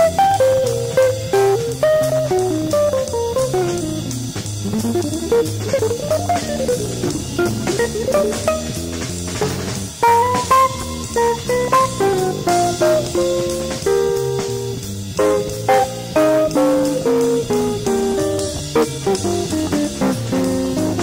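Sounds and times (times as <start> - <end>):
guitar playing quick runs: 0.0 - 21.0
instrumental band music: 0.0 - 21.0.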